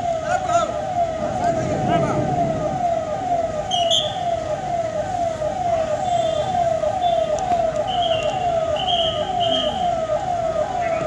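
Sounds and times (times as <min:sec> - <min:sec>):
siren falling sweeps: 0:00.0 - 0:11.0.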